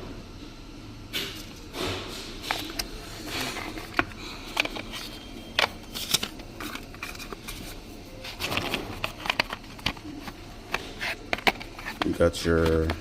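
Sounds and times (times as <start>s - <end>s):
cardboard and paper rustling: 1.4s - 13.0s.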